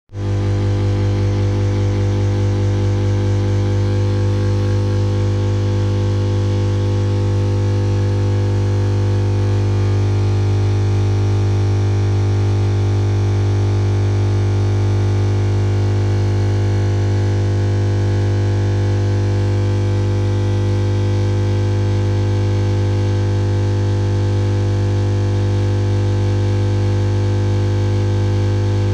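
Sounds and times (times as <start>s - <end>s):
washing machine pump buzzing: 0.1s - 28.9s.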